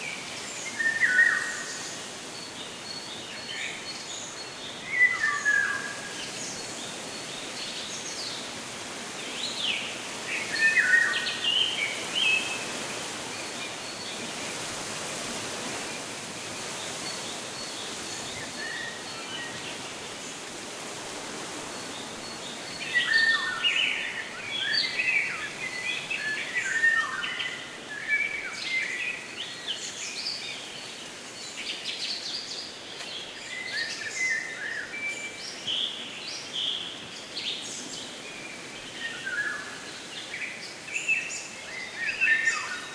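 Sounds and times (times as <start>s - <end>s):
background hiss: 0.0s - 42.9s.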